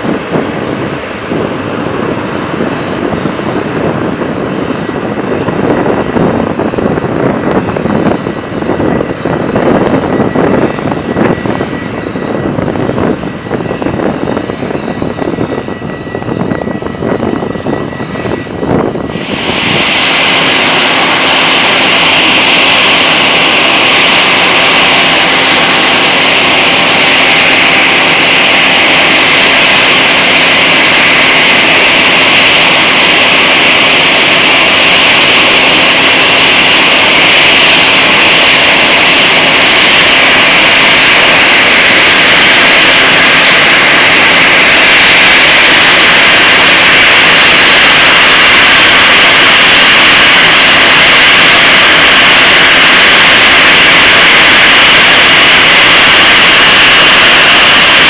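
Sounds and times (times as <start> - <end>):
distant aircraft rumble: 0.0 - 49.6
jet engines idling with whine: 0.0 - 58.0.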